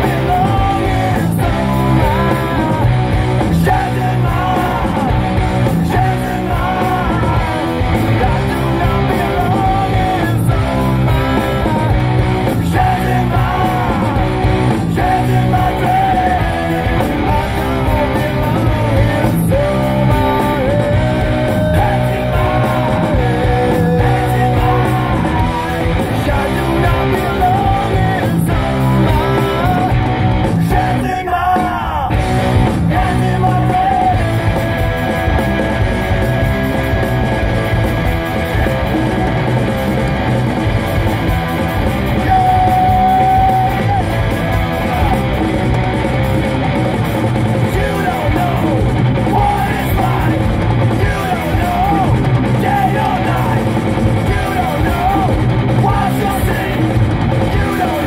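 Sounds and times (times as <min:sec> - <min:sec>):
electric guitar: 0:00.0 - 0:58.0
rock song with singing: 0:00.0 - 0:58.0.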